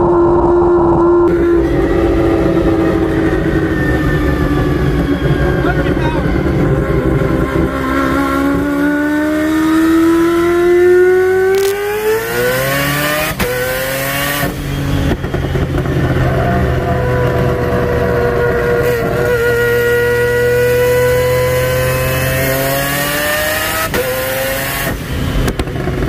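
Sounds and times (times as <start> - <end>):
rotary engine accelerating: 0.0 - 26.0.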